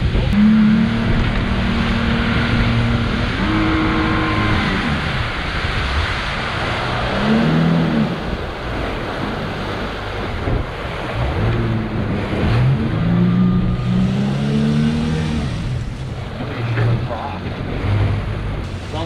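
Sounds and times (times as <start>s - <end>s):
boat engine revving: 0.0s - 19.0s
water rushing: 0.0s - 19.0s
wind: 0.0s - 19.0s.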